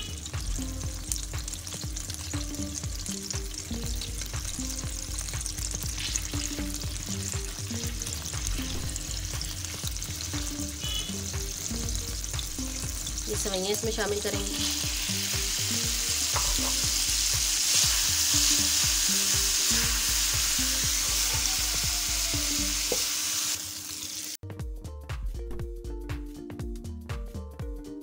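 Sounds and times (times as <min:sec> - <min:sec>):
soft background music: 0:00.0 - 0:23.6, 0:24.4 - 0:28.0
pods sizzling in butter: 0:00.0 - 0:24.4.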